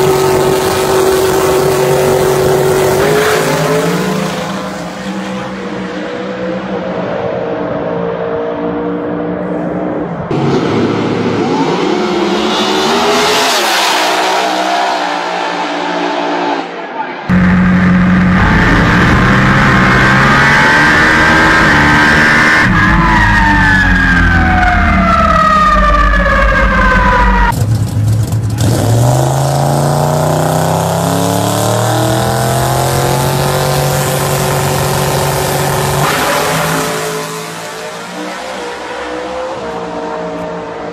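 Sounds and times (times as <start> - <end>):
drag racing engine at full power: 0.0 - 40.9.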